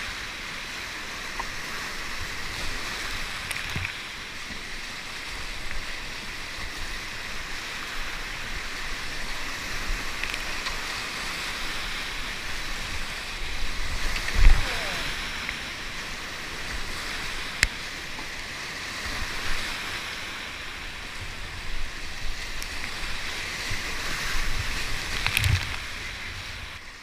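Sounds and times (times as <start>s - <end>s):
river rapid rushing: 0.0s - 27.0s.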